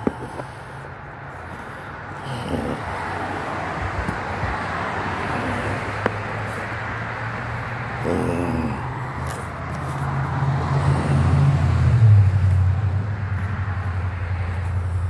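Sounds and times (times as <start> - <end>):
low engine hum: 0.0 - 15.0
road noise rushing: 0.0 - 15.0.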